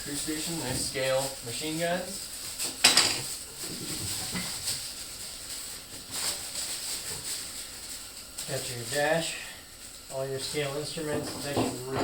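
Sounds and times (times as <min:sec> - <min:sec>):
packaging crackling: 0:00.0 - 0:11.9
packaging rustling: 0:00.0 - 0:11.9.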